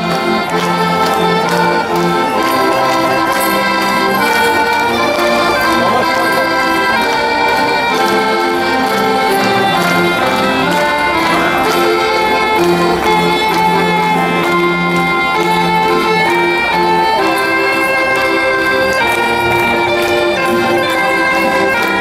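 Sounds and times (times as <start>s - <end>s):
folk dance music: 0.0s - 22.0s.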